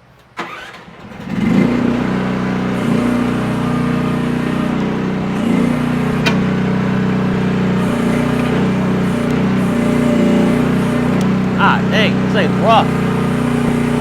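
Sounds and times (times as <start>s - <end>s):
small engine starting and running: 0.2s - 14.0s.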